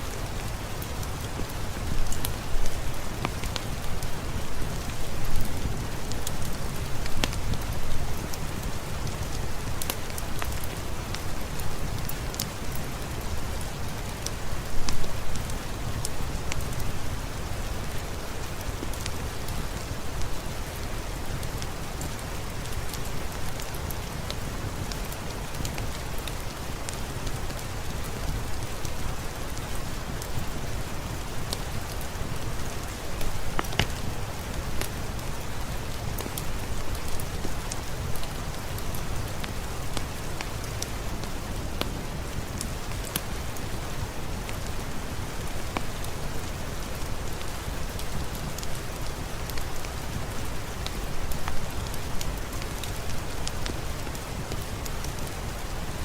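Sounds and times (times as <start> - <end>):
rain falling: 0.0 - 56.0
wood fireplace crackling: 0.1 - 56.0.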